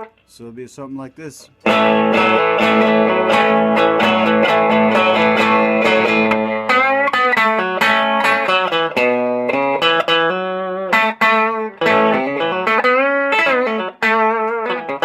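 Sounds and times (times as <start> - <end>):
guitar picking single notes: 0.0 - 15.0
guitar string bends: 1.3 - 15.0.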